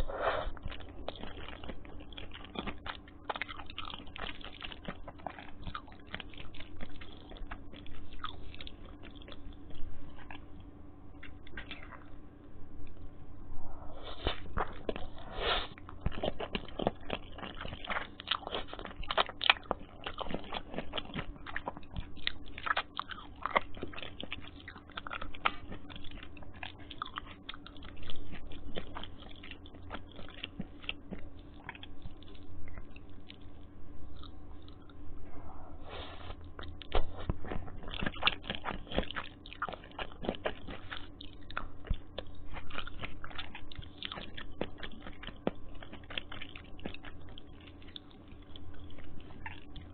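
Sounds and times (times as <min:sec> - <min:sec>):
chewing noodles close up: 0:00.0 - 0:13.0, 0:14.0 - 0:35.0, 0:35.8 - 0:49.9.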